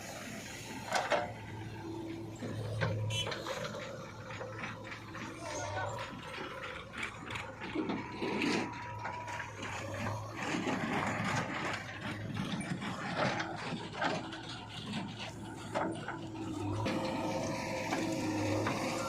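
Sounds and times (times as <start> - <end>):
low engine hum: 0.0 - 19.0
rattling clanking and scraping: 0.2 - 19.0.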